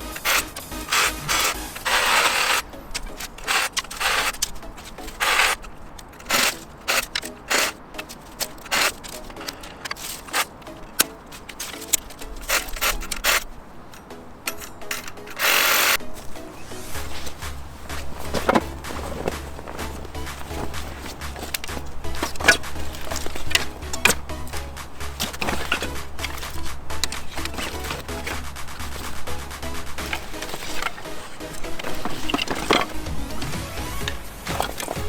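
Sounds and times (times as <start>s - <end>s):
quiet background music: 0.0s - 35.0s
reciprocating saw cutting branches: 0.0s - 35.0s
wood clicking and cracking: 0.0s - 35.0s.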